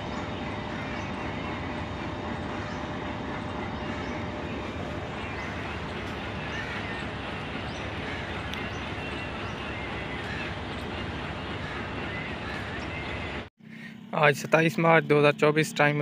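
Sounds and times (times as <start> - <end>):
locomotive engine rumble: 0.0 - 16.0.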